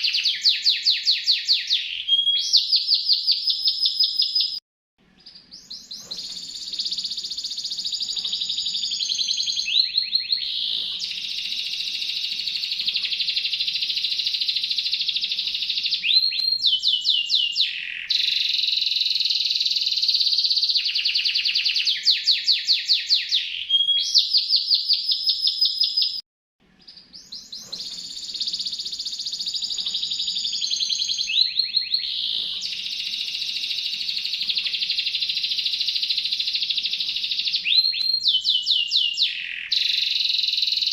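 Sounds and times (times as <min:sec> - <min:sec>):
canary singing trills: 0:00.0 - 0:26.2, 0:26.8 - 0:40.9.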